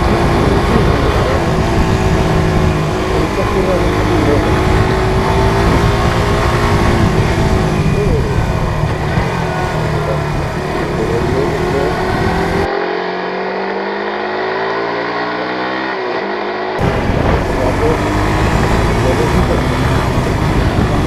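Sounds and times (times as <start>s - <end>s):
motorcycle engine running: 0.0s - 12.7s, 16.8s - 21.0s
wind rush: 0.0s - 12.7s, 16.8s - 21.0s.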